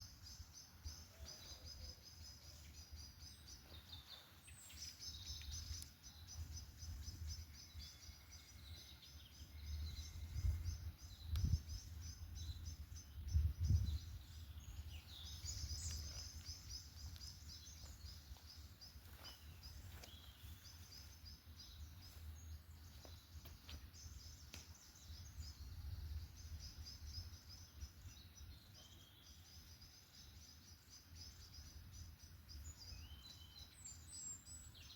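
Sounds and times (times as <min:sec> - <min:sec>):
birds singing trills: 0:00.0 - 0:34.9.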